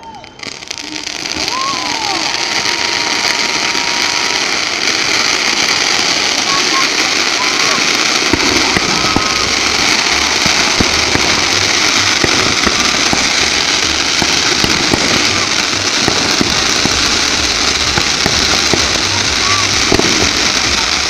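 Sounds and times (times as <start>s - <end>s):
fireworks crackling: 0.0s - 21.0s
sharp firework bangs: 0.5s - 21.0s.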